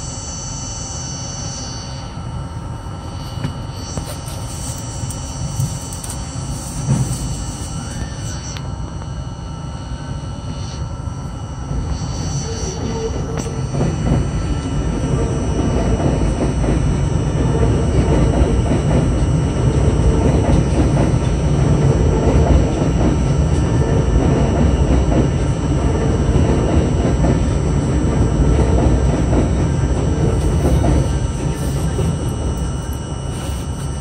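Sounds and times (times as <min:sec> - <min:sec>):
steady whining tones: 0:00.0 - 0:34.0
subway car wheels on rails: 0:02.1 - 0:10.4, 0:11.2 - 0:34.0.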